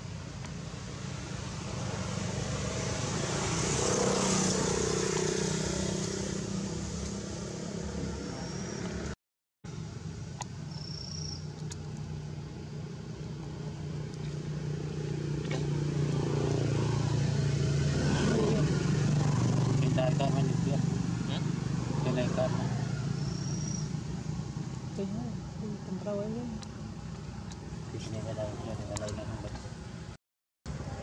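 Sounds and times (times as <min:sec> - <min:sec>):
vehicle engines humming: 0:00.0 - 0:31.0.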